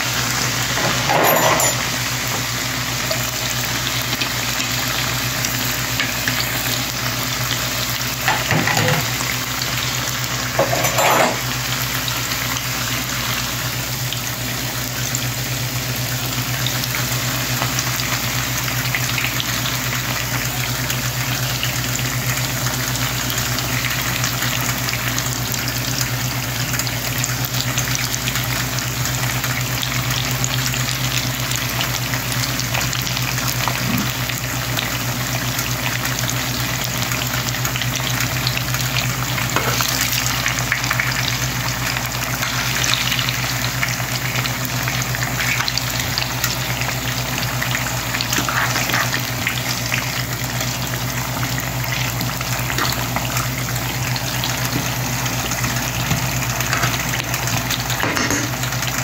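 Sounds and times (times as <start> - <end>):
potato slices frying in oil: 0.0 - 59.0.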